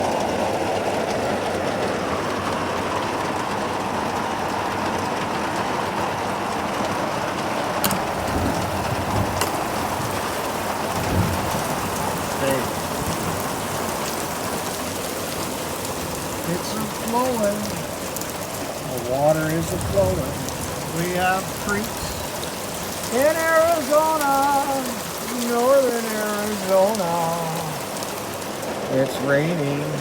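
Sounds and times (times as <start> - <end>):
hard rain drumming on surfaces: 0.0 - 30.0.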